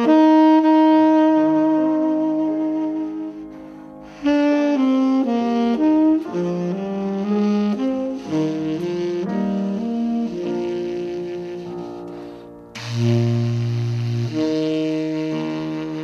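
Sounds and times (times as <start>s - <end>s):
tenor saxophone solo: 0.0s - 16.0s.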